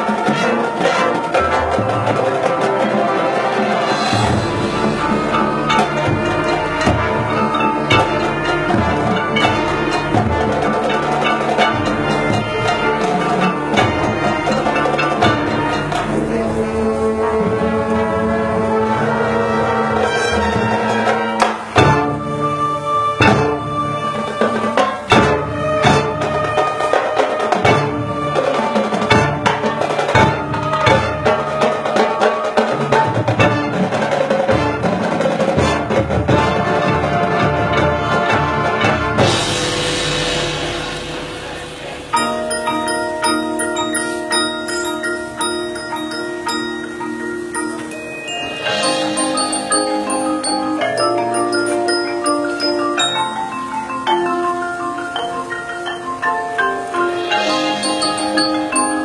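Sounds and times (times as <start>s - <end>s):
percussion striking: 0.0s - 18.2s, 19.4s - 59.0s
marching band playing: 0.0s - 59.0s.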